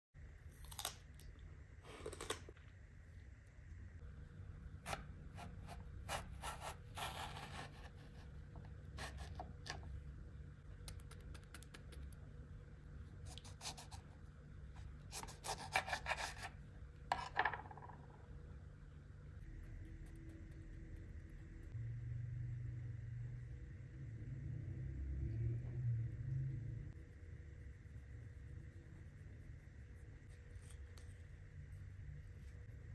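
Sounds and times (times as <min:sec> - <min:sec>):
steady low hum: 0:00.2 - 0:32.9.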